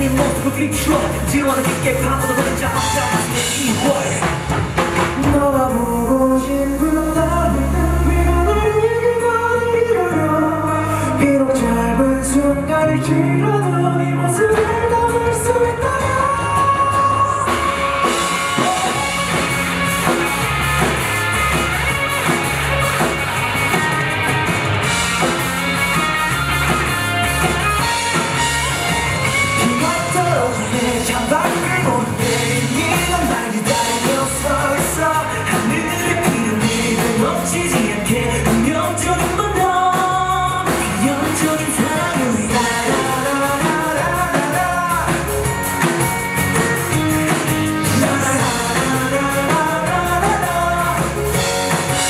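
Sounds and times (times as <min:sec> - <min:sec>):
pop-rock band with singing: 0:00.0 - 0:52.0.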